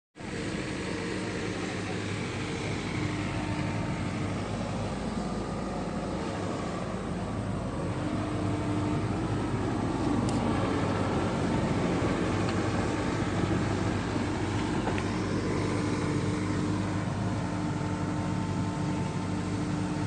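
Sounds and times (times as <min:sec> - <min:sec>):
diesel engine running: 0:00.2 - 0:20.0.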